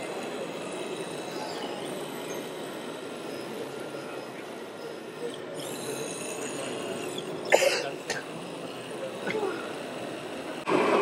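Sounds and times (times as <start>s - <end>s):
crowd murmur: 0.0s - 11.0s.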